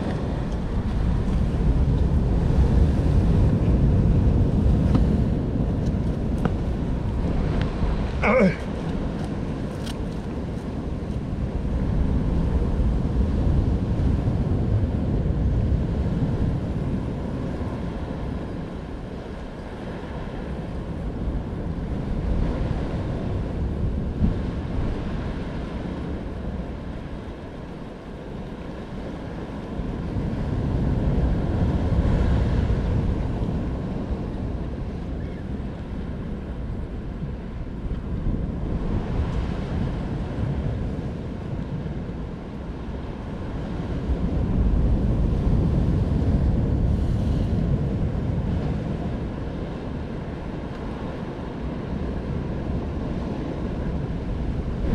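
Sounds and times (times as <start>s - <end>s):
sea surf against rocks: 0.0s - 54.9s
wind rumbling on microphone: 0.0s - 54.9s.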